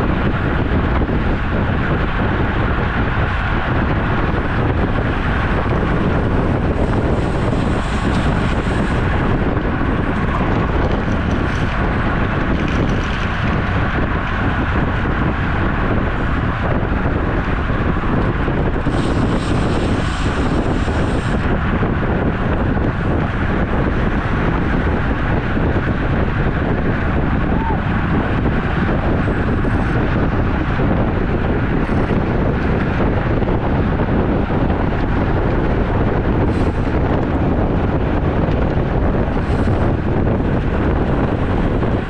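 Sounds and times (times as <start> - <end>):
bicycle tyre and road noise: 0.0 - 42.0
wind rushing over microphone: 0.0 - 42.0.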